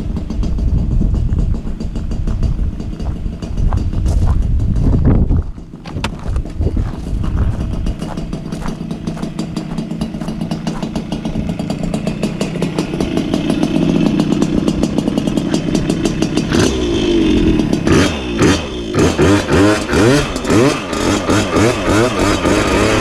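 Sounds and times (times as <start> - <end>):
moped engine revving: 0.0 - 23.0.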